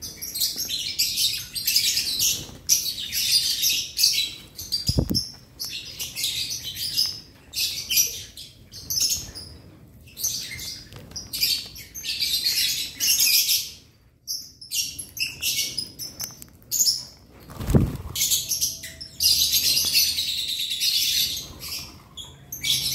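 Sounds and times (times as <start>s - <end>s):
lovebirds chirping: 0.0s - 22.9s.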